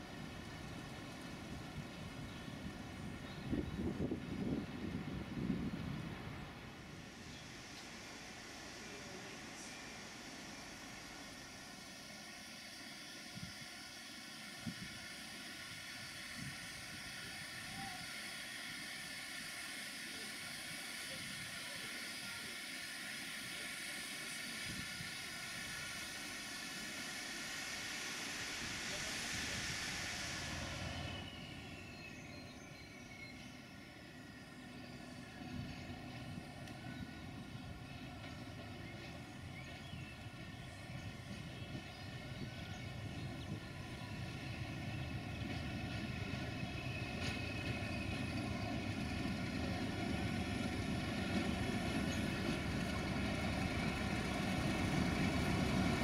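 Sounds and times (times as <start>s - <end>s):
diesel locomotive engine droning: 0.0s - 56.0s
loud hiss: 0.0s - 56.0s.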